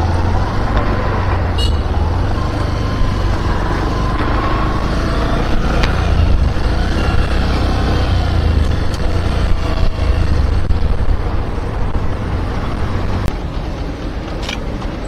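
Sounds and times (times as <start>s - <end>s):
wind rumble on microphone: 0.0s - 14.2s
motorcycle engine: 0.0s - 15.0s.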